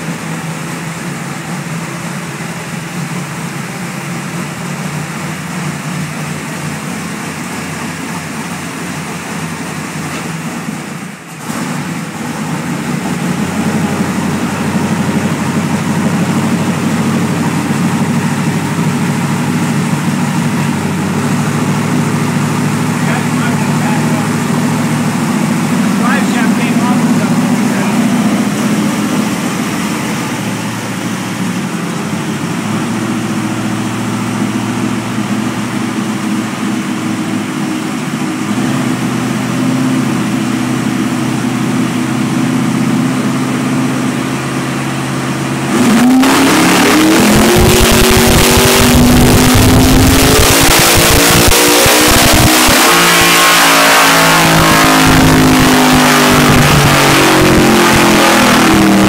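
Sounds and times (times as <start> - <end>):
car engine revving on dyno: 0.0 - 59.0.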